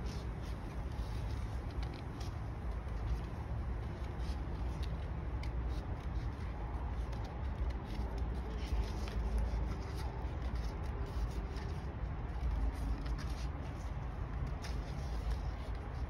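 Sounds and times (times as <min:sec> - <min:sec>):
paper rustling: 0:00.0 - 0:16.0.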